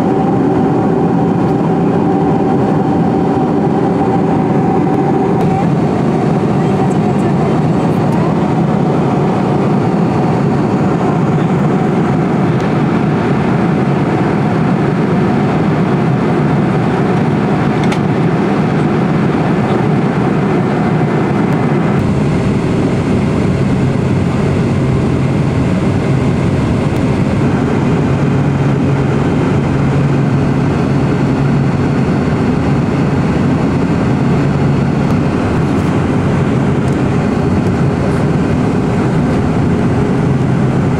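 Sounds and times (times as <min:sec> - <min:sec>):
airflow and jet engine noise: 0:00.0 - 0:40.9
low hum: 0:00.0 - 0:40.9
steady low drone: 0:00.0 - 0:40.9.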